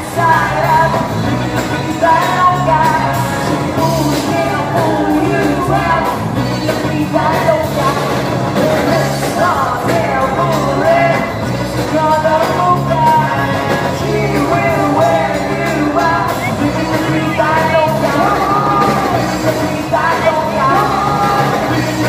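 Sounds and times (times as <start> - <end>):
lead singer: 0.0 - 22.0
live band playing: 0.0 - 22.0.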